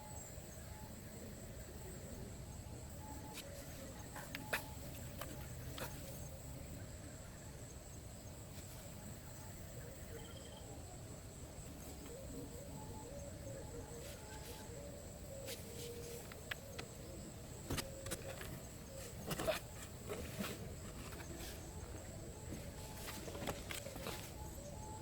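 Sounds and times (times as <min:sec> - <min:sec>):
soft wavering low tone: 0:00.0 - 0:25.0.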